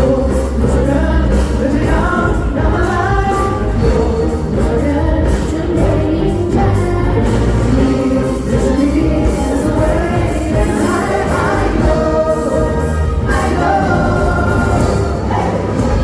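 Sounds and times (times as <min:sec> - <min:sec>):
live pop song with heavy bass: 0:00.0 - 0:16.0.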